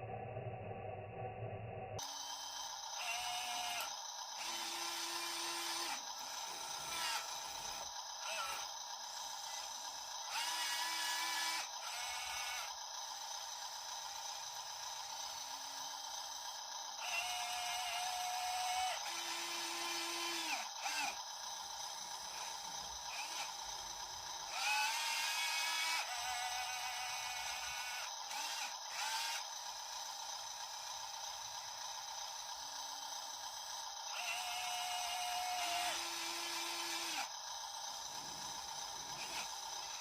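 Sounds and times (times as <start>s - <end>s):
small electric motors whining: 2.0s - 40.0s.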